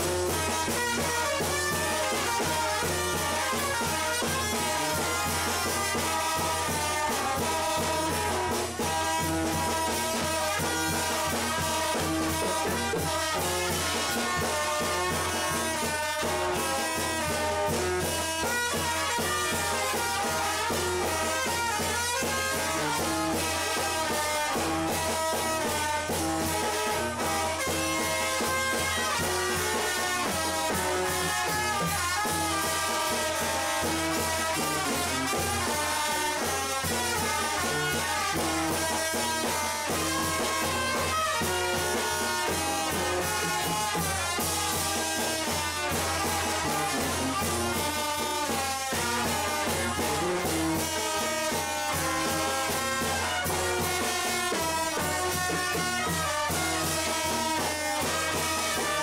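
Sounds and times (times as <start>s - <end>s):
brass band playing: 0.0s - 59.0s.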